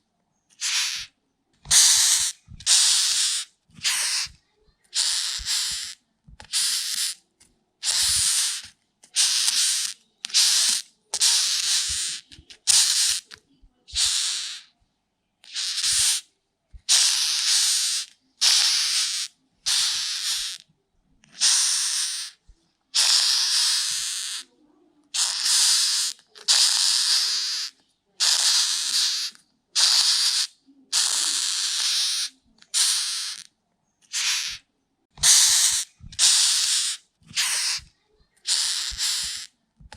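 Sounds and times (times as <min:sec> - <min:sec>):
beetle rasping hiss: 0:00.6 - 0:01.1, 0:01.7 - 0:07.2, 0:07.8 - 0:13.3, 0:13.9 - 0:14.7, 0:15.4 - 0:16.3, 0:16.9 - 0:20.6, 0:21.4 - 0:22.4, 0:23.0 - 0:24.5, 0:25.2 - 0:33.5, 0:34.1 - 0:34.6, 0:35.2 - 0:39.5.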